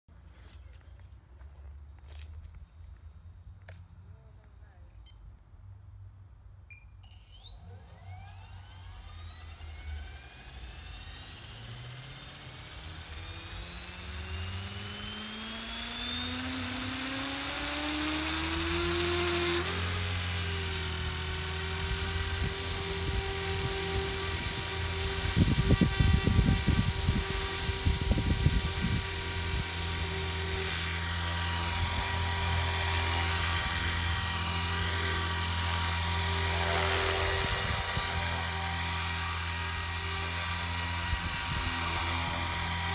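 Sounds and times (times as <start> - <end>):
rc helicopter motor and rotor whine: 7.0 - 42.9
pulsing rotor noise: 7.1 - 42.9.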